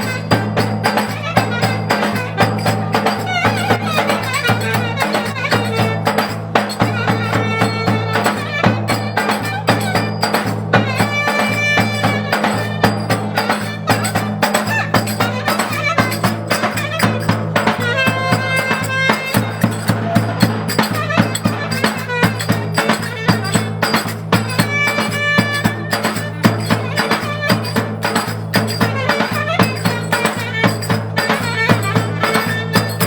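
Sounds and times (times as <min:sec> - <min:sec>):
fast percussion beat: 0:00.0 - 0:33.0
reedy wind melody: 0:00.0 - 0:33.0.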